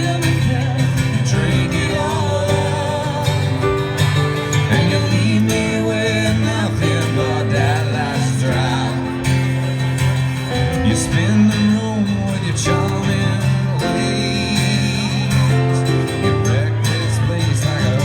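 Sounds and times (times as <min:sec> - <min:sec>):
acoustic guitar strumming: 0:00.0 - 0:18.0
wavering melodic lead line: 0:00.0 - 0:18.0.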